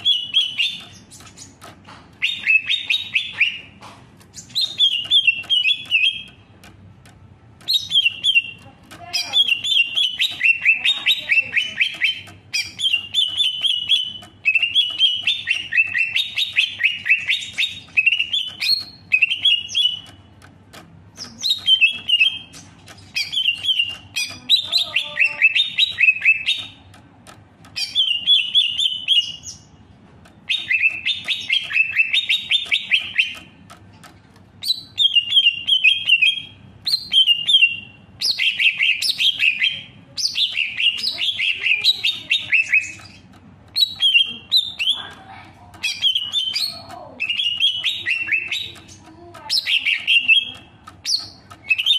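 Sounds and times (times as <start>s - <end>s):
bird warbling song: 0.0s - 20.5s, 21.2s - 27.0s, 27.6s - 33.8s, 34.6s - 51.9s.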